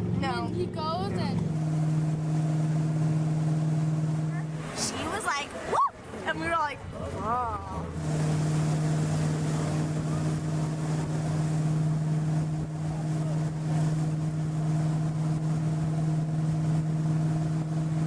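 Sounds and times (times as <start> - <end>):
motorboat engine droning: 0.0 - 18.0.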